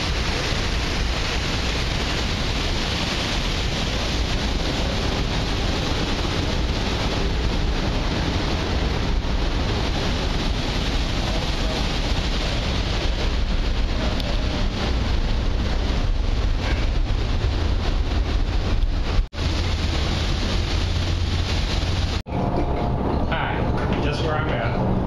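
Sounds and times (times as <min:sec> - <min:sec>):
propeller wash churning: 0:00.0 - 0:22.3
low rumble: 0:00.0 - 0:25.0
wind buffeting microphone: 0:00.0 - 0:25.0.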